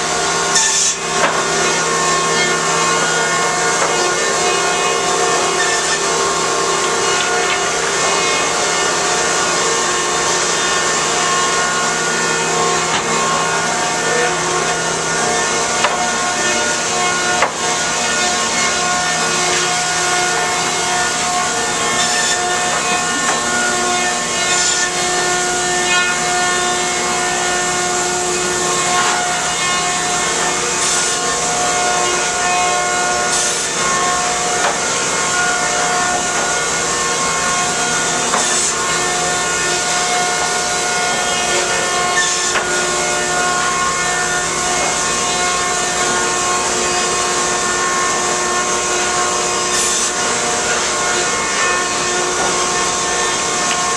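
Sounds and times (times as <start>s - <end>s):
boards hissing through cutters: 0.0s - 53.9s
planer machine humming: 0.0s - 53.9s
wood-cutting hiss: 0.1s - 53.9s.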